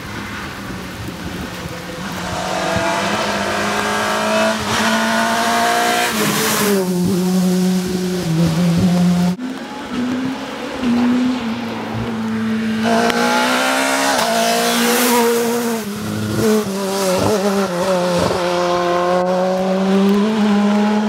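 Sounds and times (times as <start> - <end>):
gravel and water spray: 0.0 - 20.5
rally car engine revving past: 2.1 - 9.4, 10.0 - 21.0.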